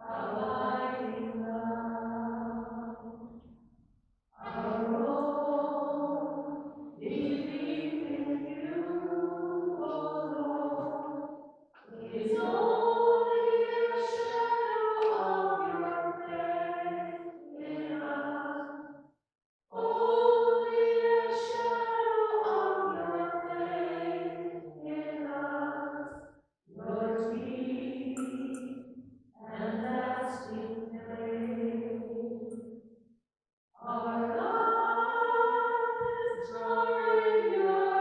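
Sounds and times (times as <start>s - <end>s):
unaccompanied hymn singing: 0.0s - 3.2s, 4.4s - 18.8s, 19.7s - 28.8s, 29.4s - 32.2s, 33.8s - 38.0s.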